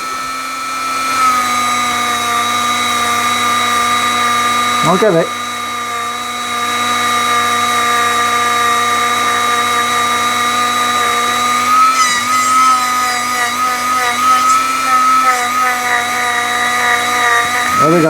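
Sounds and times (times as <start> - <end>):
rotary tool grinding whine: 0.0 - 18.0.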